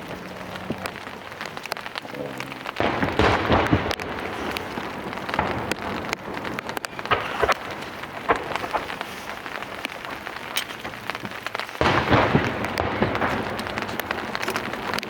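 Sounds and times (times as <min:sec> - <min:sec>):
fireworks barrage: 0:00.0 - 0:15.0
rain drops tapping: 0:00.0 - 0:15.0
loud firework burst: 0:02.6 - 0:15.0.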